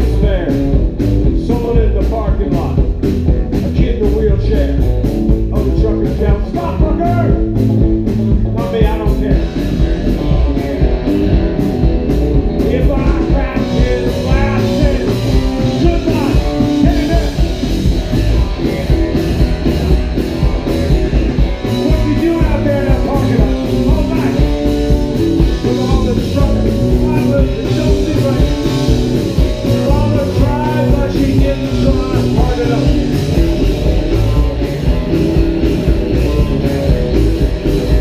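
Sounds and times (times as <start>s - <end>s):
rockabilly band playing: 0.0s - 38.0s.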